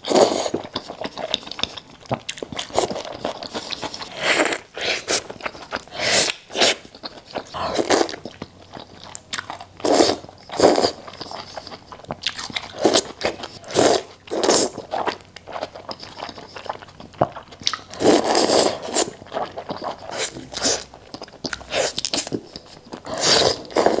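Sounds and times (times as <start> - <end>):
person crunching and chewing: 0.0 - 24.0.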